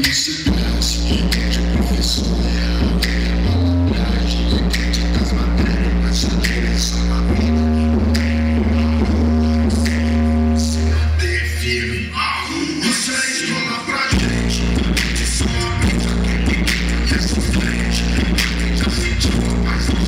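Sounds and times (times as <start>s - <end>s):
music with vocals through car speakers: 0.0s - 20.0s
deep bass notes: 0.4s - 12.6s, 14.1s - 20.0s.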